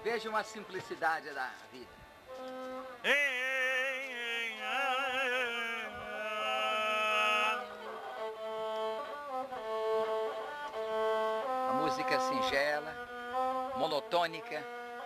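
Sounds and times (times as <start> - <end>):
bowed fiddle melody: 0.0 - 15.0.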